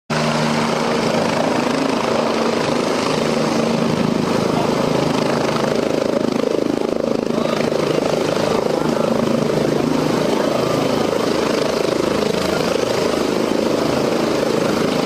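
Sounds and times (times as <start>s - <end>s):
helicopter rotor and engine: 0.1s - 15.0s.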